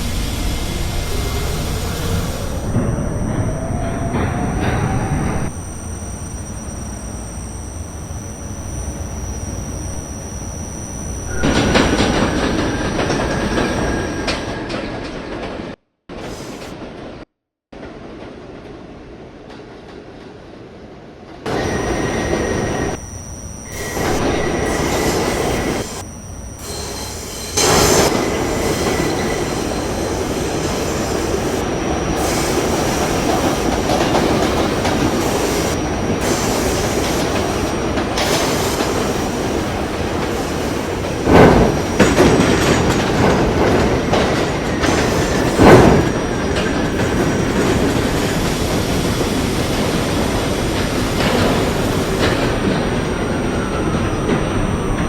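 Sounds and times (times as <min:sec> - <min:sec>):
train wheels rumbling on rail: 0:00.0 - 0:09.8, 0:10.4 - 0:17.2, 0:26.6 - 0:55.0.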